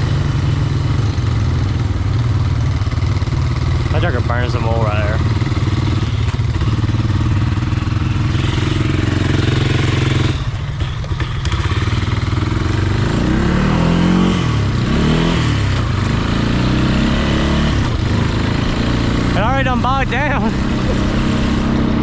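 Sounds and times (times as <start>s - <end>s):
vehicle engine revving: 2.7s - 22.0s.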